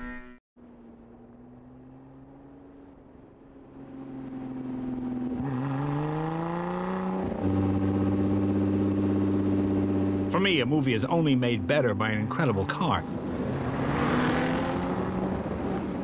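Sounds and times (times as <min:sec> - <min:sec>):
sports car engine accelerating: 0:00.6 - 0:16.0.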